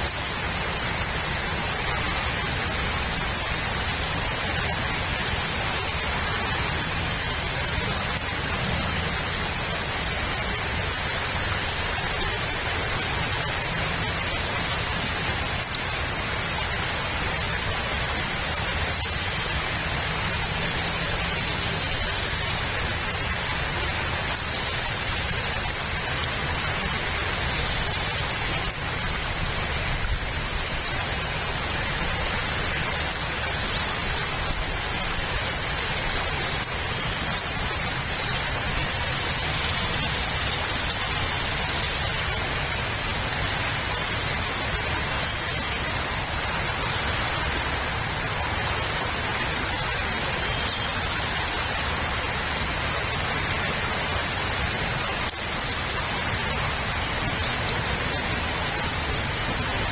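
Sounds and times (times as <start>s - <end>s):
rain hissing: 0.0s - 59.9s.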